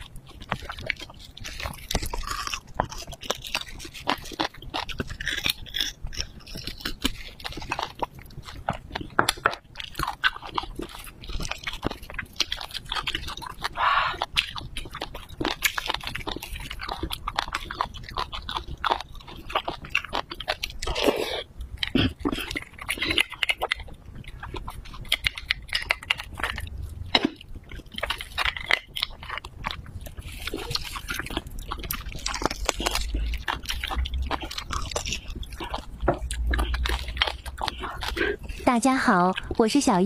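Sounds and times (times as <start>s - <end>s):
sticky mouth clicks: 0.0s - 40.0s
wet chewing and sucking: 0.0s - 40.0s.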